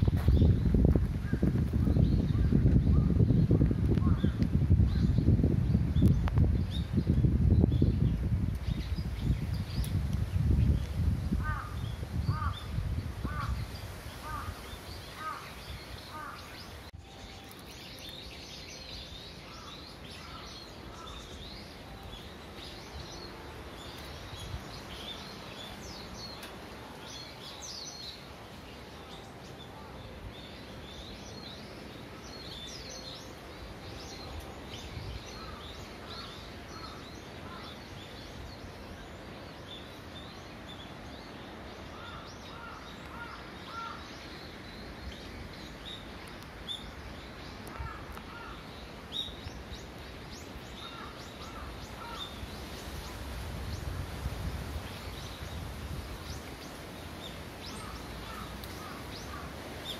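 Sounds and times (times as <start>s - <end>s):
outdoor background noise: 0.0s - 59.9s
small birds chirping: 0.0s - 59.9s.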